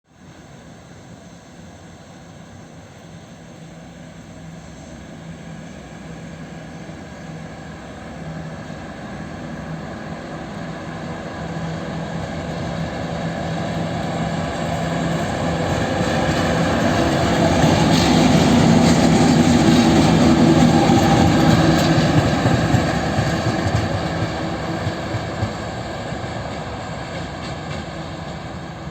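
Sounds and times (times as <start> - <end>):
diesel locomotive engine droning: 0.1 - 28.9.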